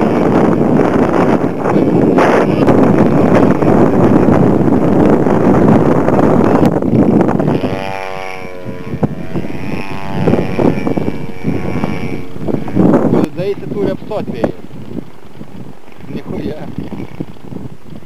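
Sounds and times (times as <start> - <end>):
model airplane motor drone: 0.0 - 18.0
wind buffeting microphone: 0.0 - 18.0.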